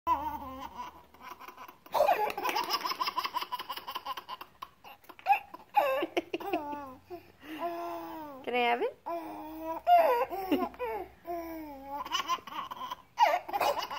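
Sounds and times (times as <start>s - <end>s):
baby vocal sounds: 0.1s - 2.8s, 3.5s - 8.4s, 9.0s - 13.9s
baby laughing: 0.1s - 8.3s, 9.3s - 13.9s.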